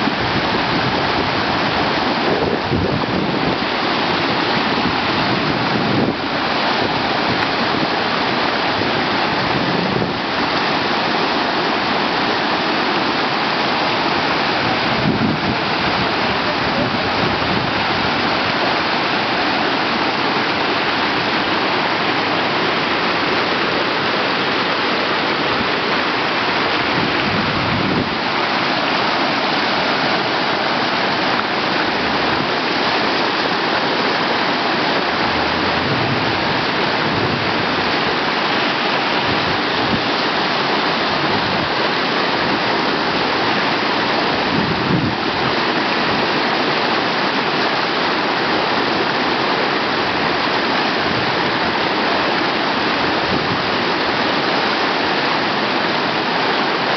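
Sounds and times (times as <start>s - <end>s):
whitewater rushing: 0.0s - 56.9s.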